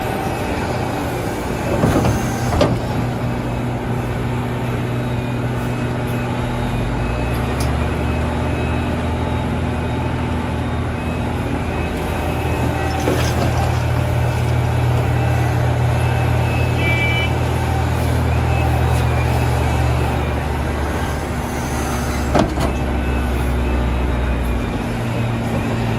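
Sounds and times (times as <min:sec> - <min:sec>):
excavator engine running: 0:00.0 - 0:25.9.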